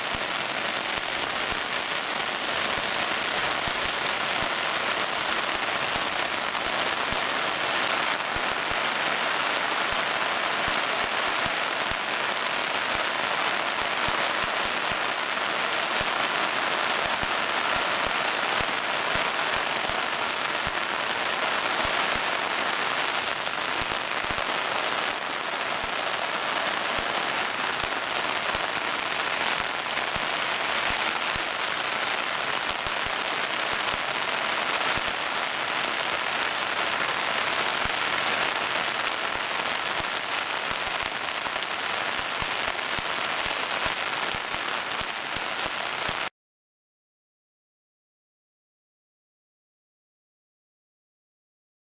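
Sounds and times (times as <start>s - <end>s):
heavy rain: 0.0s - 46.3s.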